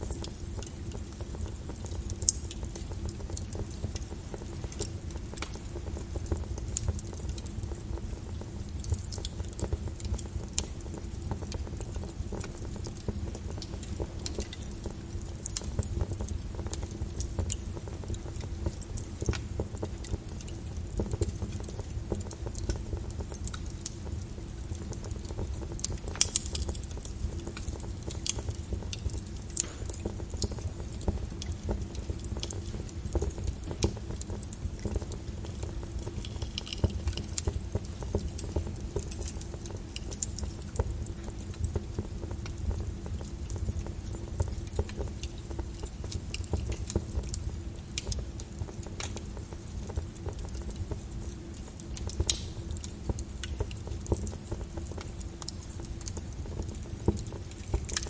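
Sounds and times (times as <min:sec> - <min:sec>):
low steady rumble: 0:00.0 - 0:58.0
wood fire crackling: 0:00.0 - 0:58.0.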